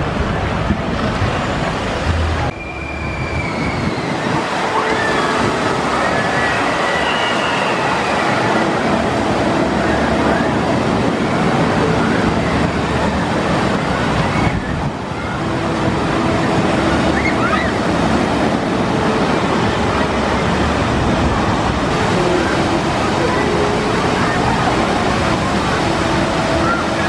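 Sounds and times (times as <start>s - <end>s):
water rushing down a slide: 0.0s - 27.0s.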